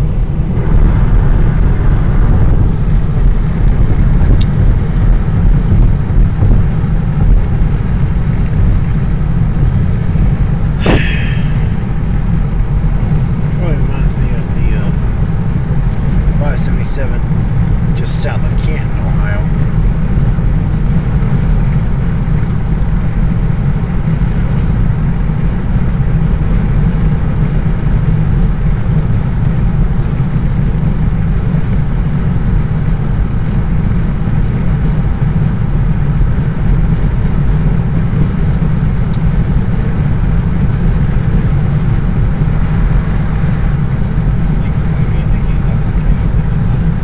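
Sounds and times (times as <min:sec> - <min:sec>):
car road noise: 0:00.0 - 0:47.0.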